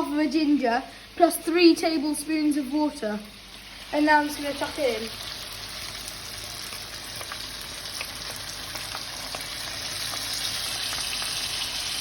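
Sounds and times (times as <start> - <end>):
chicken sizzling in oil: 0.1 - 12.0.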